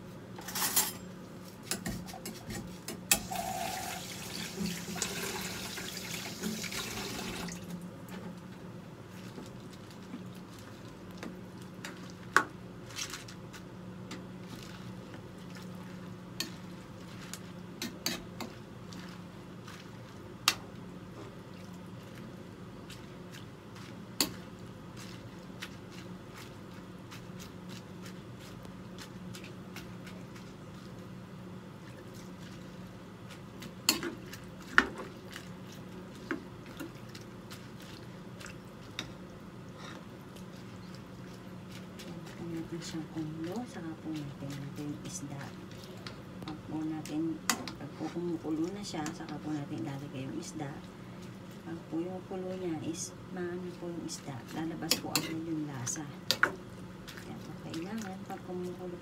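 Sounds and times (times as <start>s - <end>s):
steady low hum: 7.5s - 59.0s
soft wet stirring: 7.6s - 59.0s.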